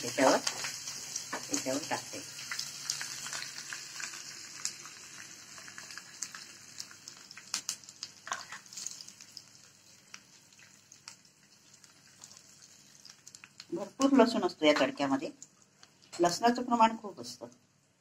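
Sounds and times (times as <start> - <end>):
hot oil sizzling: 0.0 - 17.4.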